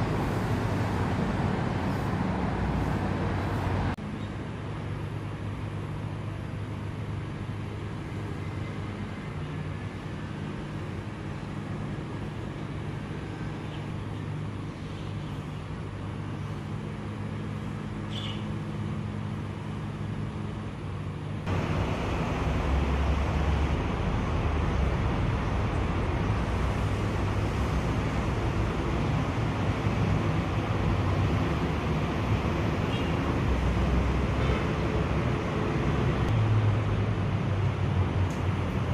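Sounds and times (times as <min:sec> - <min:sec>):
road traffic: 0:00.0 - 0:38.9
rough road noise: 0:00.0 - 0:38.9
vehicle engine hum: 0:00.0 - 0:38.9.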